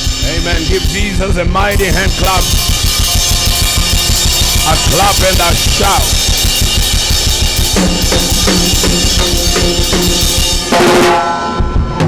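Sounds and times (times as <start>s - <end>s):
drum kit played fast: 0.0s - 12.0s.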